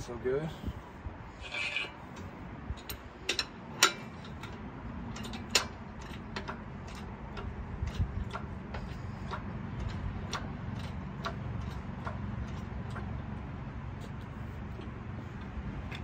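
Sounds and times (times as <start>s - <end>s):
low rumble of wheeled lift rolling: 0.0s - 16.0s
sharp metal clicks and knocks: 1.5s - 16.0s.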